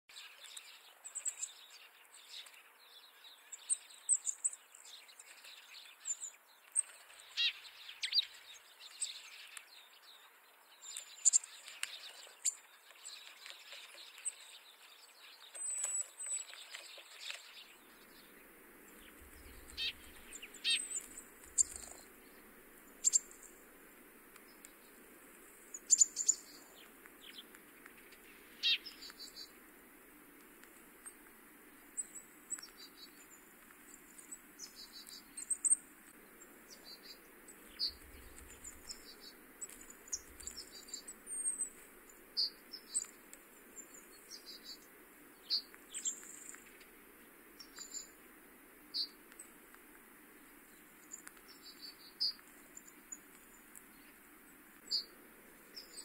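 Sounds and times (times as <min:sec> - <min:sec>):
small birds chirping: 0:00.0 - 0:56.0
faint steady hiss: 0:00.1 - 0:56.0.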